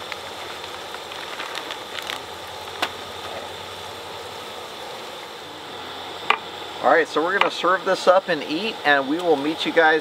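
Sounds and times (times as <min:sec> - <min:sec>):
food sizzling on griddle: 0:00.0 - 0:10.0.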